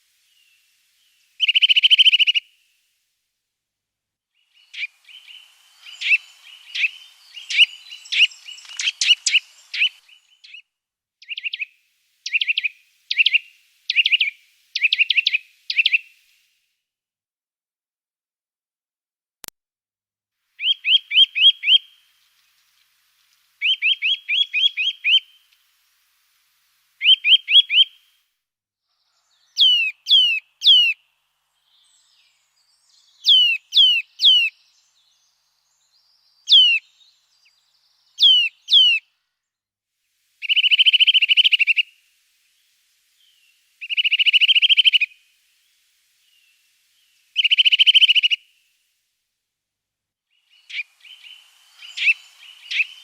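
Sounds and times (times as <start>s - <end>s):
songbird singing: 0.0s - 3.0s, 4.3s - 16.5s, 20.5s - 28.2s, 28.9s - 39.5s, 40.2s - 49.0s, 50.1s - 53.0s.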